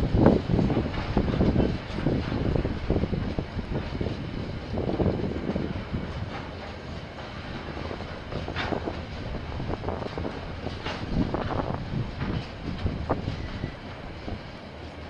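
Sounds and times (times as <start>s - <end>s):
train wagons rumbling: 0.0s - 15.0s
wheels clanking on track: 0.0s - 15.0s.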